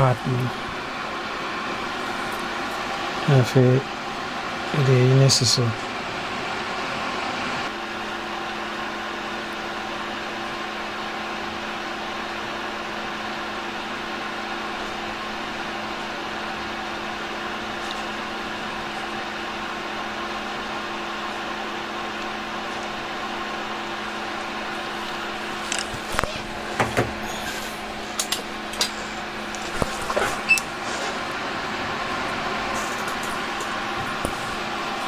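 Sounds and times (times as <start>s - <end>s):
electric fan whirring: 0.0s - 35.0s.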